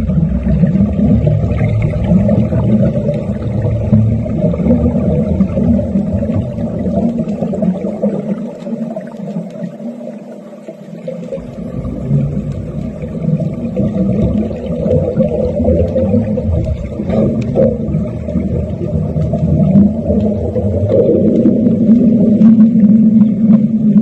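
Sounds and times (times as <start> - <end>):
underwater rumble and bubbling: 0.0 - 24.0.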